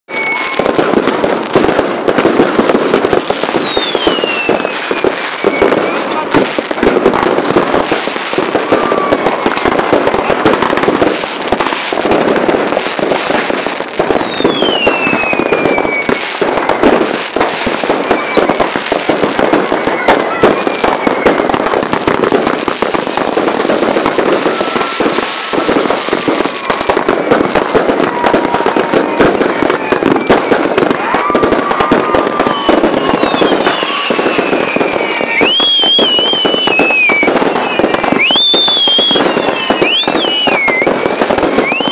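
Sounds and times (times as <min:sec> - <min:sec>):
fireworks crackling and banging: 0:00.0 - 0:41.9
falling firework whistles: 0:00.1 - 0:41.9
shrill whistling firework: 0:00.1 - 0:41.9.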